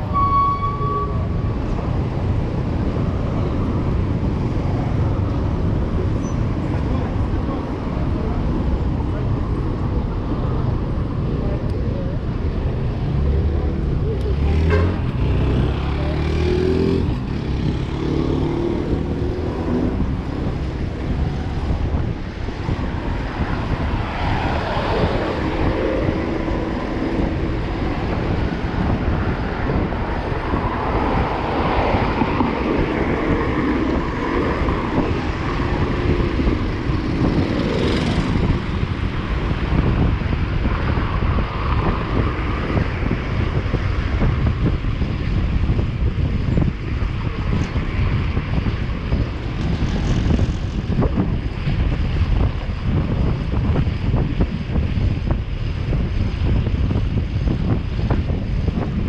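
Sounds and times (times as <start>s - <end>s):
city traffic: 0.0s - 59.0s
wind buffeting microphone: 1.0s - 59.0s.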